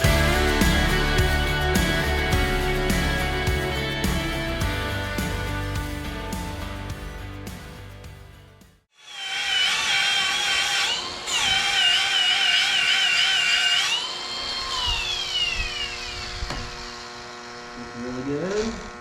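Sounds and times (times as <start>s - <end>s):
electric power tool whining: 0.0s - 6.0s, 9.0s - 19.0s.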